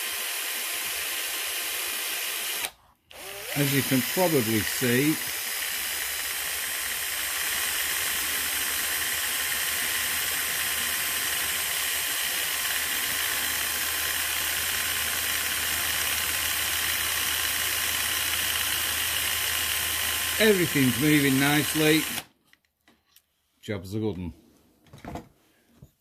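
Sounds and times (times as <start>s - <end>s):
electric drill whirring: 0.0s - 22.3s.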